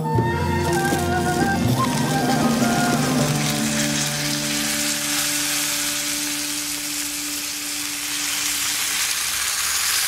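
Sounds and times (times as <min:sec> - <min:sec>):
syrup sizzling in frying pan: 0:00.5 - 0:10.0.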